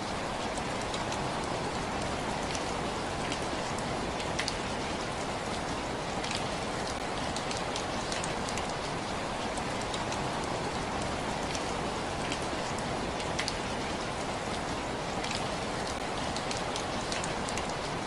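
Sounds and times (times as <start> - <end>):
rain patter: 0.0 - 18.0
raindrops ticking: 0.0 - 18.0.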